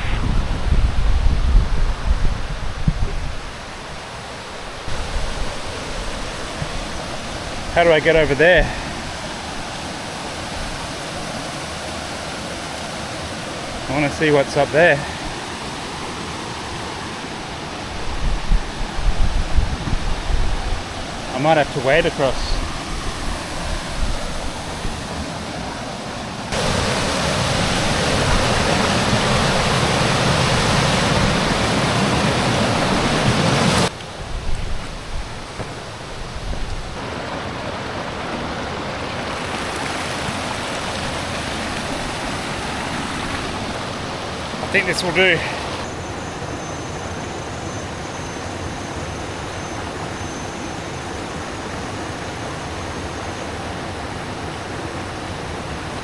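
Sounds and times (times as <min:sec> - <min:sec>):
stream and waterfall rushing: 0:00.0 - 0:56.0.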